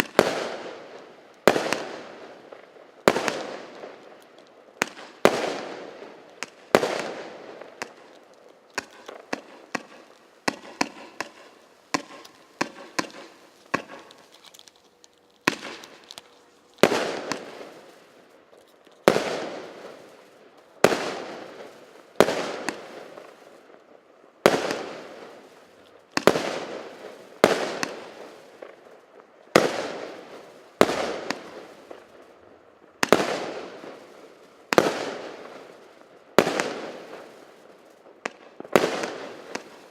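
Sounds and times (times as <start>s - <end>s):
firework bangs with crackle: 0.0s - 14.7s, 15.4s - 18.3s, 19.0s - 32.4s, 33.0s - 39.9s.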